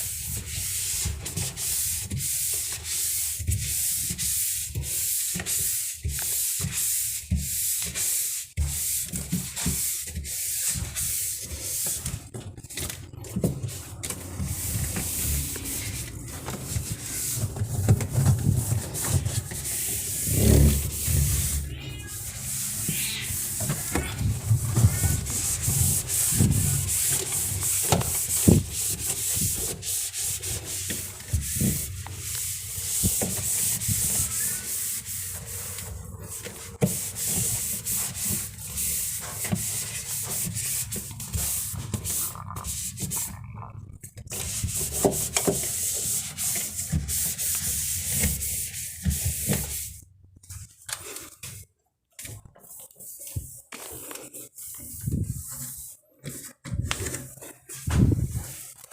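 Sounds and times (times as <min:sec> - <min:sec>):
hand scrubbing surface: 0:00.0 - 0:50.0, 0:52.2 - 0:58.9
irregular scrapes: 0:00.1 - 0:51.6.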